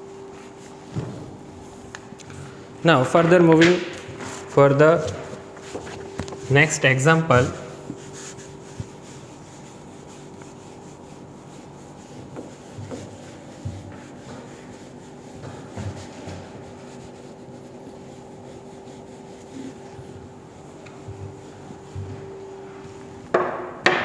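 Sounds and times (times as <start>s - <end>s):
duster wiping a whiteboard: 0.0s - 23.6s.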